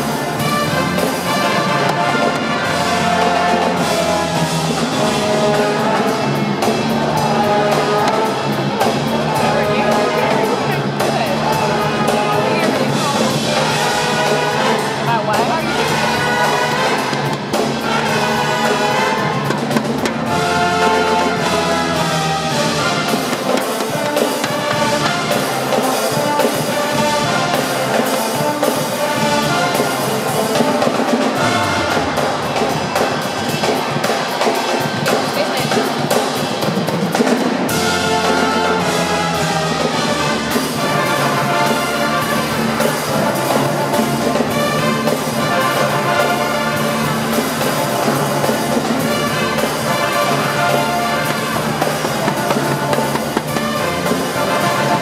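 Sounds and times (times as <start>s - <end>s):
brass band playing: 0.0s - 55.0s
drum kit: 0.0s - 55.0s.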